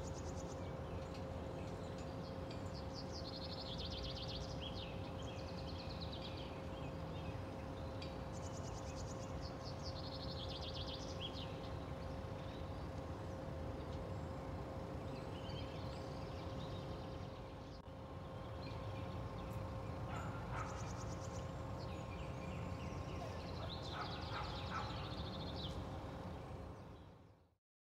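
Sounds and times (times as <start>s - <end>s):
songbirds trilling and chirping: 0.0s - 27.4s
faint constant hum: 0.0s - 27.6s.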